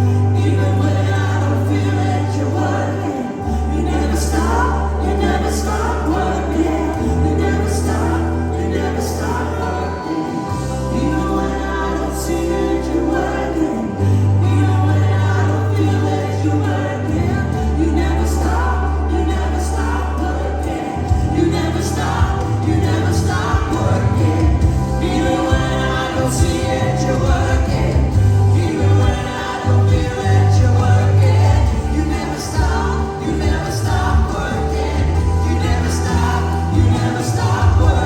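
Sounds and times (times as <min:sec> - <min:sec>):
choir singing gospel song: 0:00.0 - 0:38.0
deep bass line: 0:00.0 - 0:38.0.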